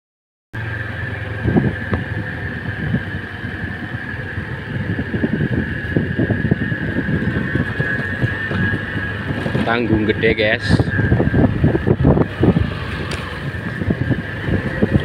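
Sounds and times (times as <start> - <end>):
motorcycle engine hum: 0.6 - 15.0
steady high tone: 0.6 - 15.0
wind buffeting microphone: 0.6 - 15.0.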